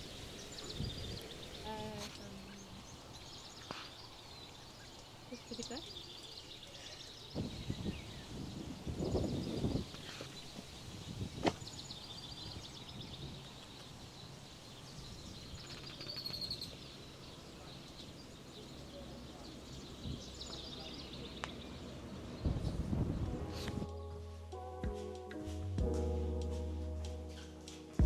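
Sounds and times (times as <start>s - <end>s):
small birds chirping in trills: 0.0s - 23.3s
outdoor background noise: 0.0s - 28.0s.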